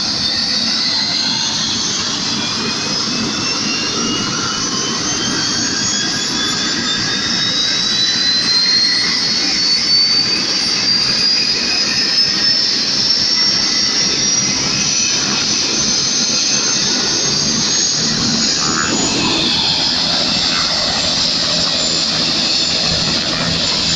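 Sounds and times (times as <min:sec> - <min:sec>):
helicopter turbine whine rising: 0:00.0 - 0:23.9
rushing rumble of engine and rotor: 0:00.0 - 0:23.9.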